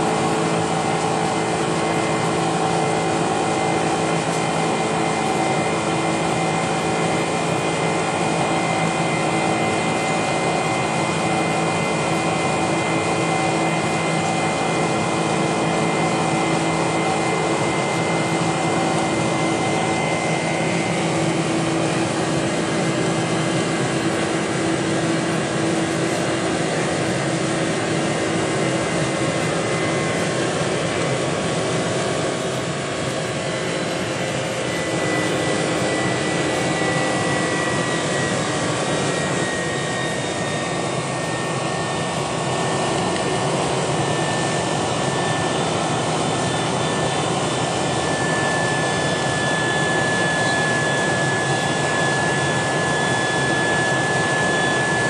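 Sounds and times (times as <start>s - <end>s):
jet engines roaring: 0.0s - 55.0s
steady engine tones: 0.0s - 55.0s.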